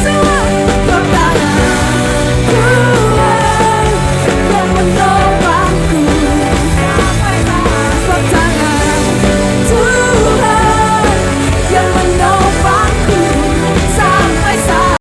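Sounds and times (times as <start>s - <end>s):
person singing: 0.0s - 15.0s
worship band playing rock song: 0.0s - 15.0s.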